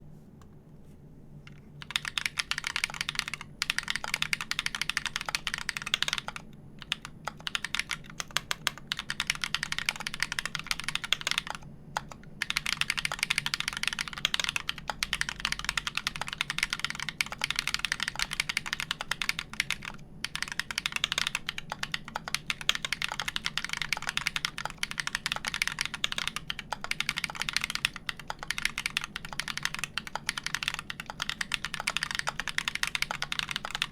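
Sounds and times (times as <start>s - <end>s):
typing on mechanical keyboard: 1.8s - 33.9s.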